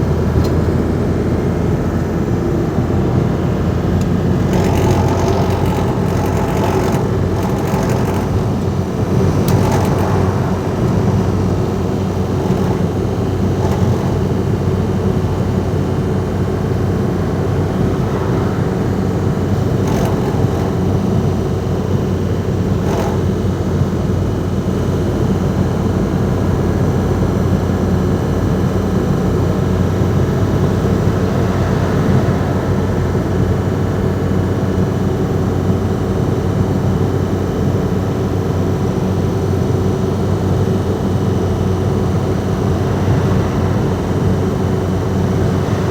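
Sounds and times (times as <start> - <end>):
diesel van engine running: 0.0 - 45.9.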